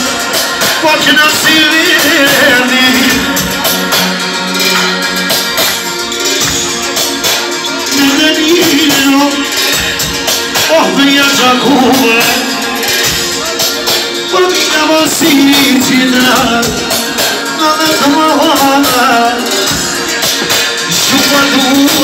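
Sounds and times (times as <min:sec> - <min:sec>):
man singing through a microphone: 0:00.0 - 0:05.0, 0:07.6 - 0:20.2, 0:20.8 - 0:22.0
busy percussion beat: 0:00.0 - 0:22.0.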